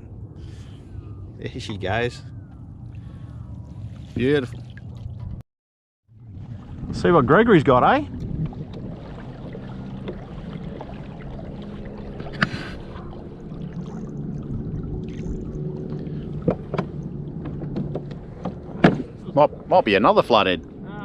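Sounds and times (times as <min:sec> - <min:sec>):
steady low hum: 0:00.0 - 0:05.4, 0:06.2 - 0:21.0.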